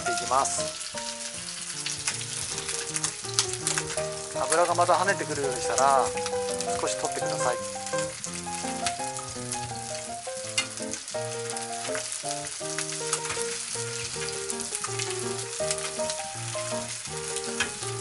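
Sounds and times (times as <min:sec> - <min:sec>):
background music with held notes: 0:00.0 - 0:18.0
chicken sizzling in a frying pan: 0:00.0 - 0:18.0
crackling pops of spattering fat: 0:00.0 - 0:18.0.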